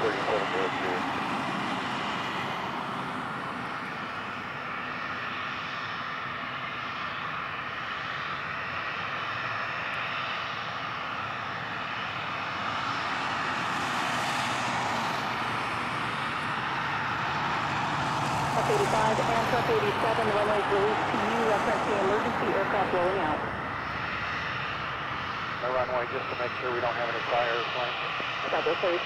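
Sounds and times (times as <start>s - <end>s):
jet engine rushing: 0.0s - 29.0s.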